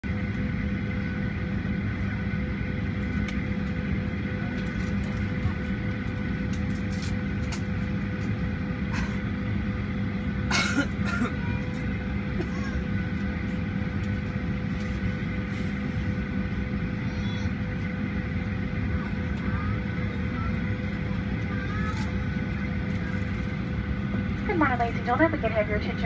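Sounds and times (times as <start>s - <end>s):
aircraft cabin hum: 0.0s - 26.0s
constant whine: 0.0s - 26.0s.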